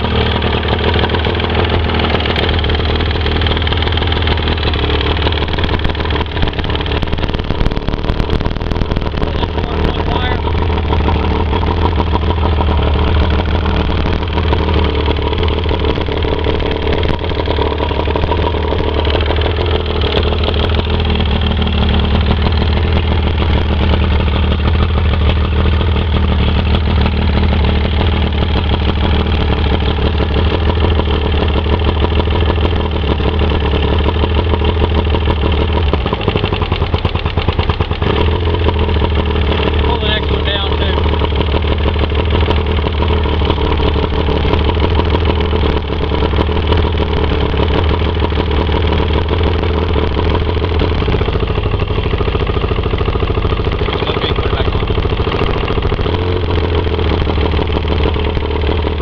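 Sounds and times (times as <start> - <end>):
outboard motor idling with knock: 0.0 - 59.0.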